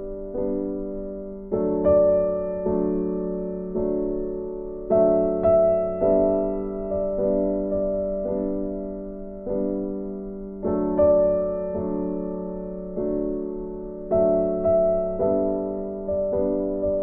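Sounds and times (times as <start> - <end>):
slow gentle piano piece: 0.0 - 17.0.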